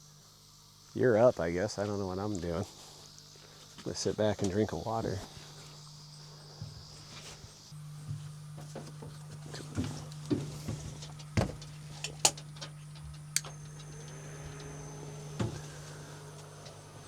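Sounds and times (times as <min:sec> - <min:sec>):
low electric hum: 0:00.0 - 0:17.0.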